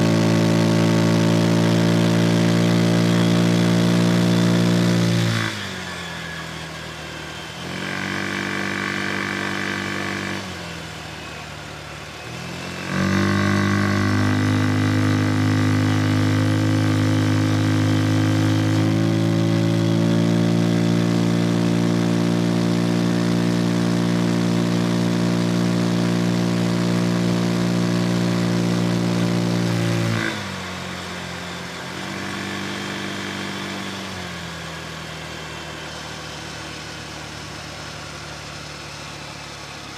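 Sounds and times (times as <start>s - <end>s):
scooter engine droning: 0.0s - 39.9s.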